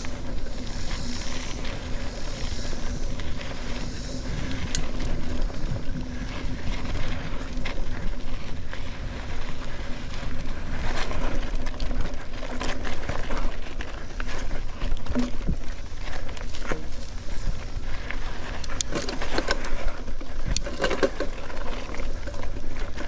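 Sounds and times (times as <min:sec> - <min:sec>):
bike rattling over bumps: 0:00.0 - 0:23.0
tyres rolling on dirt: 0:00.0 - 0:23.0
wind rumble on microphone: 0:00.0 - 0:23.0.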